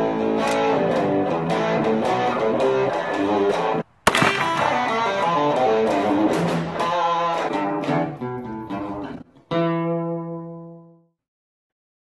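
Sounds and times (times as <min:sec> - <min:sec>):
guitar music: 0:00.0 - 0:11.2.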